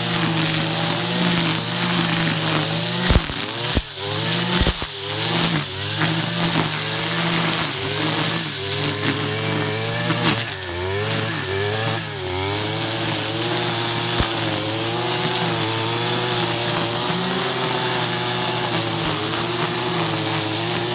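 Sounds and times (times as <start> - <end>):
brushcutter engine running: 0.0 - 20.9.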